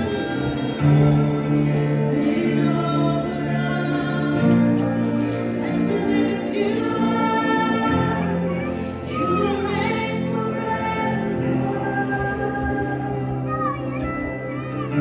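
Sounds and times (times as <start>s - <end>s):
women singing: 0.0s - 13.5s
keyboard chords: 0.0s - 15.0s.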